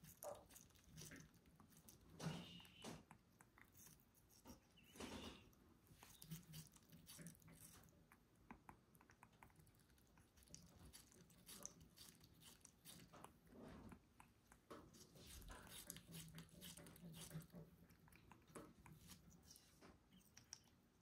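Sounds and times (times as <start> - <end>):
parrot beak crunching watermelon: 0.0 - 21.0.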